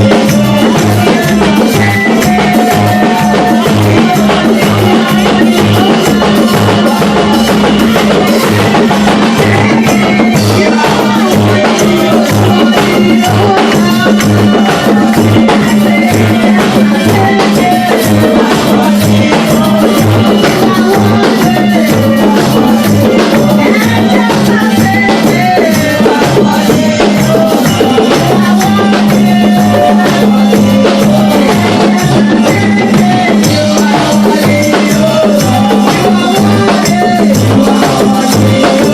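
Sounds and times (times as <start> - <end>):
shakers: 0.0 - 38.9
steady drum beat: 0.0 - 38.9
voices singing: 0.0 - 38.9.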